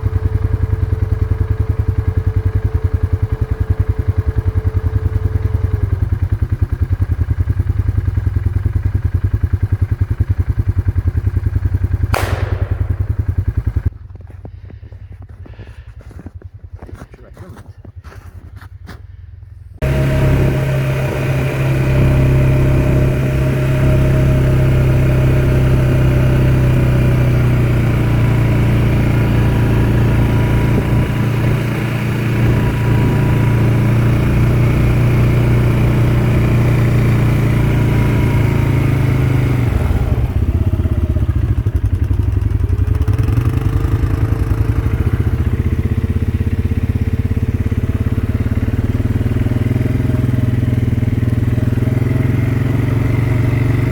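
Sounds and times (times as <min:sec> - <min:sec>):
atv engine droning: 0:00.0 - 0:17.1, 0:18.0 - 0:53.9.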